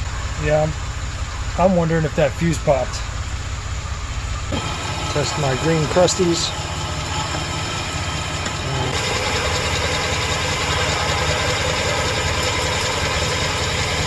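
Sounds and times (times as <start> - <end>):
van engine idling: 0.0 - 14.0.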